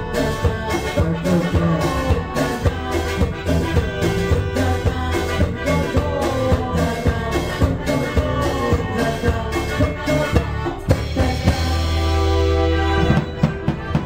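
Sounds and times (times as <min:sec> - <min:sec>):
instrumental dance music: 0:00.0 - 0:14.0.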